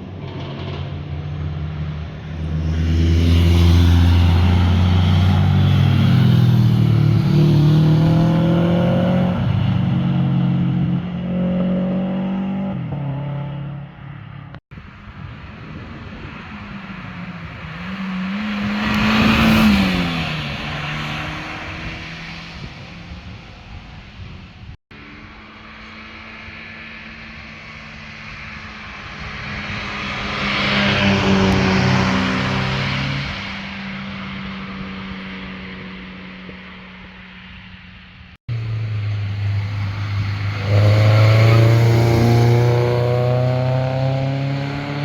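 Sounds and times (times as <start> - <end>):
car engine passing by: 0.3 - 14.1, 15.1 - 36.5, 38.5 - 45.0.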